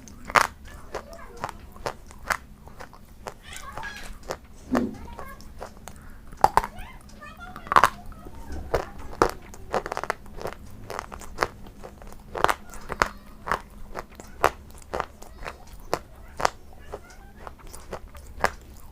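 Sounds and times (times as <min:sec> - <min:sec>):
chewing crunchy food: 0:00.0 - 0:18.9.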